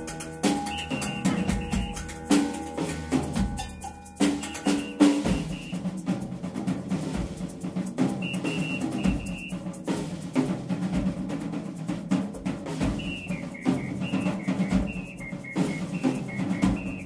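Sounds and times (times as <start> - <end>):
jazz band playing samba: 0.0 - 17.0
snare and bass drum strokes: 0.0 - 17.0.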